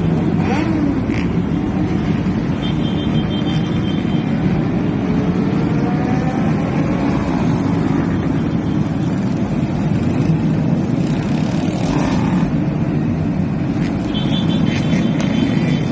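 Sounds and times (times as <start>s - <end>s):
highway traffic rumble: 0.0s - 15.9s.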